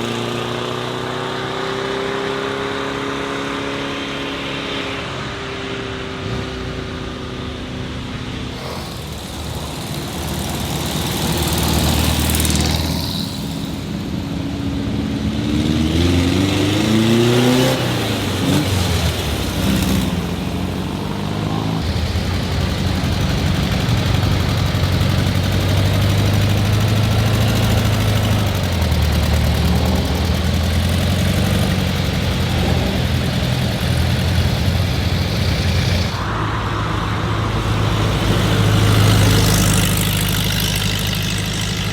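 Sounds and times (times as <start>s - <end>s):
car engine revving: 0.0s - 41.9s
car engines passing by: 0.0s - 41.9s
low engine hum: 6.4s - 41.9s.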